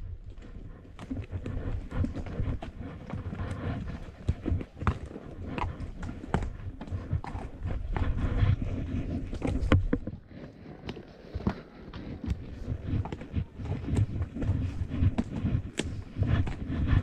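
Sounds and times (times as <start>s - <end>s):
horse hooves clopping: 0.0s - 17.0s.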